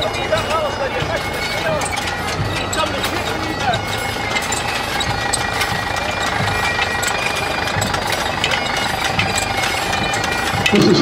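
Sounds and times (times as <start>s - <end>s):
diesel tractor engine running: 0.0s - 11.0s
rakes clattering: 0.0s - 11.0s.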